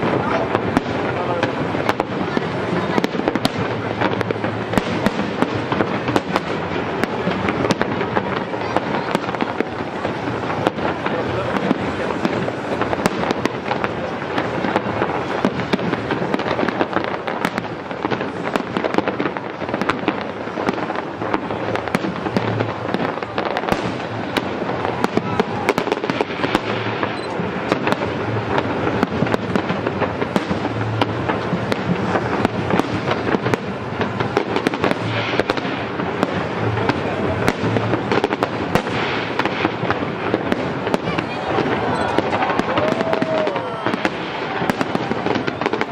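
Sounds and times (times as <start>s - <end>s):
fireworks crackling pops: 0.0s - 45.9s.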